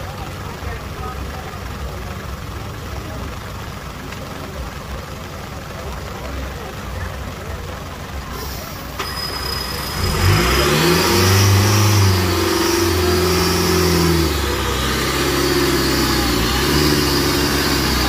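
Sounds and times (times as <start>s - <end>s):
diesel truck engine revving: 0.0s - 18.0s.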